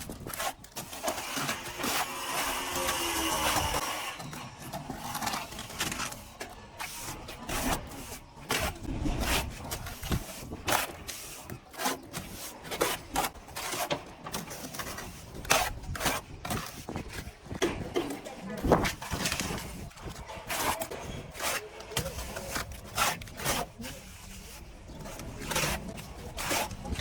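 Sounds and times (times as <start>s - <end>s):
trowel scraping plaster: 0.0s - 27.0s.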